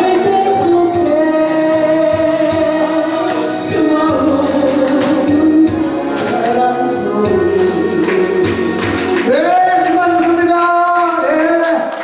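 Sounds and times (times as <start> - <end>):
backing music with steady beat: 0.0 - 11.8
person singing with vibrato: 0.0 - 11.9.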